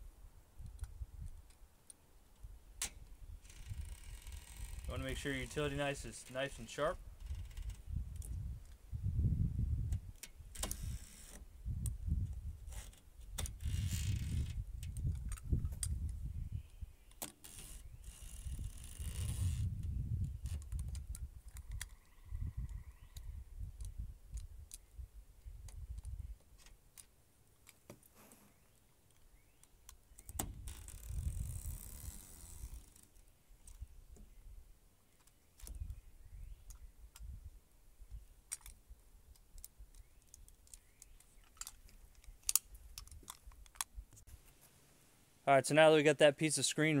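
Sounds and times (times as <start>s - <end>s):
faint ticks and scrapes: 0.6s - 8.8s, 9.9s - 24.9s, 25.6s - 34.4s, 38.0s - 45.1s.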